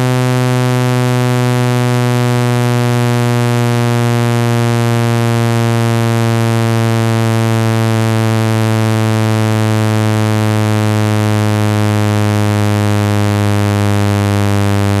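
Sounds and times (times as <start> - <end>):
low electronic buzzing tone: 0.0 - 15.0.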